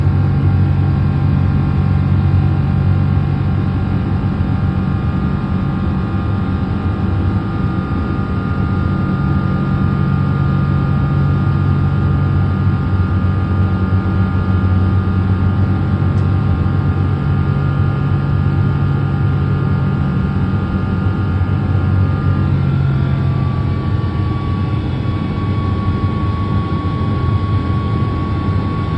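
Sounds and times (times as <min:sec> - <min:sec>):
high fan tone: 0:00.0 - 0:28.9
jet engines low rumble: 0:00.0 - 0:28.9.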